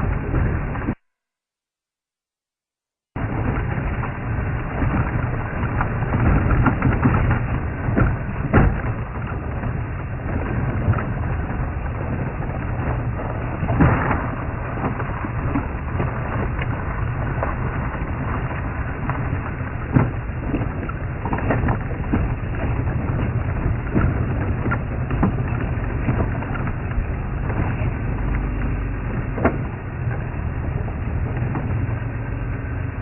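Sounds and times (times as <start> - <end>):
vehicle engine rumble: 0.0 - 1.0, 3.2 - 33.0
wind on microphone: 0.0 - 1.0, 3.2 - 33.0
knocks and rattles from bumps: 3.2 - 33.0.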